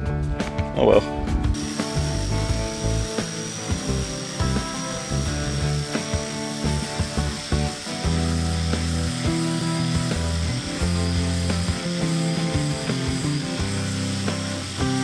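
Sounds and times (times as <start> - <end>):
music with steady beat: 0.0 - 15.0
power sander whining: 1.6 - 15.0.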